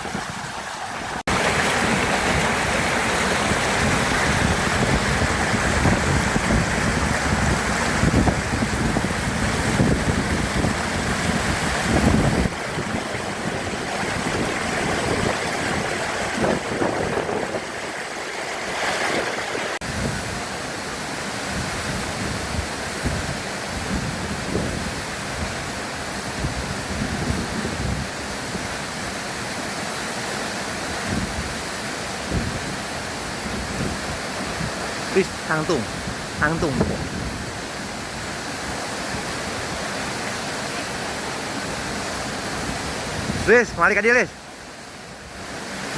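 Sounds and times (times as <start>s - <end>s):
wind buffeting microphone: 0.0s - 20.5s, 21.4s - 29.1s, 30.8s - 35.0s, 35.7s - 43.6s
waterfall rushing: 0.0s - 23.7s, 27.7s - 45.9s.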